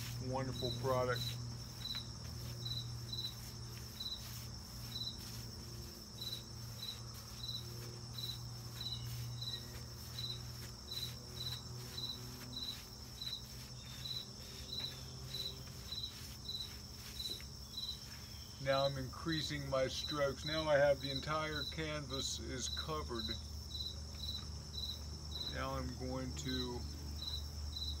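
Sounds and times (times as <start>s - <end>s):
insect chirping: 0.0s - 28.0s
steady high hiss: 0.0s - 28.0s.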